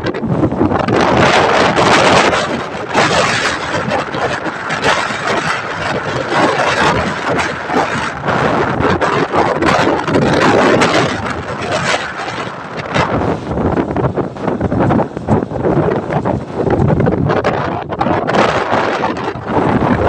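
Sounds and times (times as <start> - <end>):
motorcycle running: 0.0 - 20.0
wind buffeting microphone: 0.0 - 20.0.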